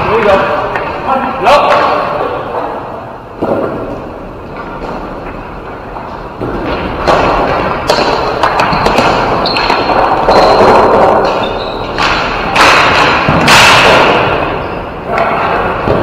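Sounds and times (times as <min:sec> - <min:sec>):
noisy rink din: 0:00.0 - 0:16.0.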